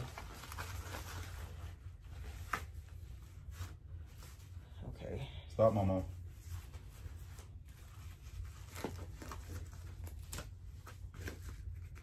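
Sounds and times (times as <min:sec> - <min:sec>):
diaper rustling and crinkling: 0:00.0 - 0:04.8, 0:05.9 - 0:12.0
low steady hum: 0:00.0 - 0:12.0.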